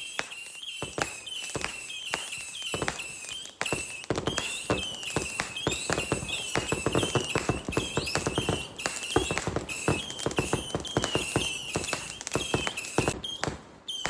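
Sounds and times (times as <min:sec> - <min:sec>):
fireworks crackling: 0:00.0 - 0:14.0
high whistling tone: 0:00.0 - 0:14.0.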